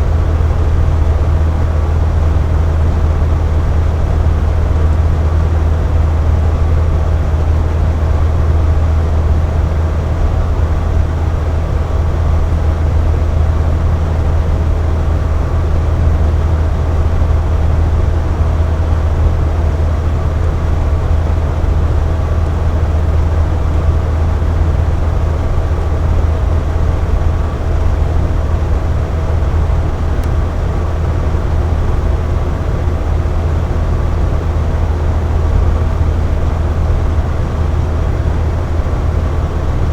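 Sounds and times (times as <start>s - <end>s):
box fan running: 0.0s - 39.9s.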